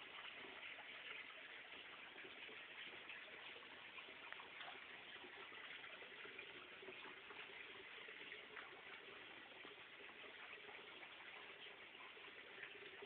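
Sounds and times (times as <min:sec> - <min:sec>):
faint running water: 0:00.0 - 0:13.0.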